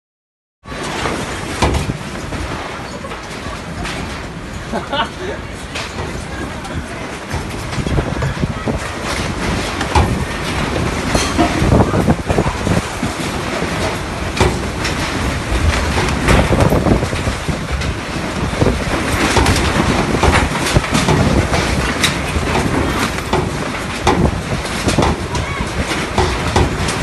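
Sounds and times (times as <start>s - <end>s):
clattering knocks: 0.7s - 4.9s, 5.7s - 27.0s
strong gusting wind on microphone: 0.7s - 27.0s.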